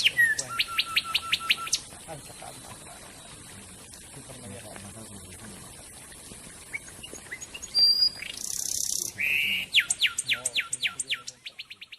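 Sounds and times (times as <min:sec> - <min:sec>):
songbird singing: 0:00.0 - 0:11.9.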